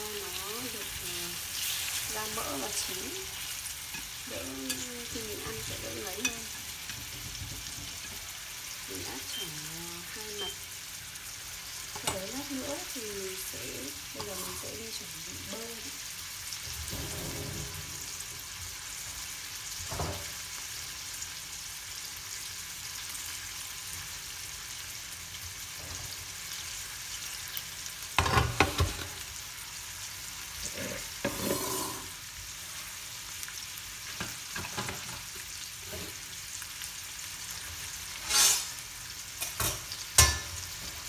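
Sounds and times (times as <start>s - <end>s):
meat sizzling in a frying pan: 0.0s - 41.0s.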